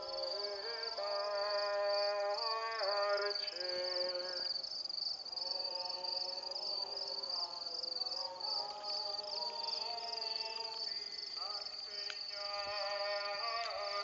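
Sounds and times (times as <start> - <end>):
voices singing long notes: 0.0 - 4.6, 5.2 - 14.0
crickets chirping: 0.0 - 14.0.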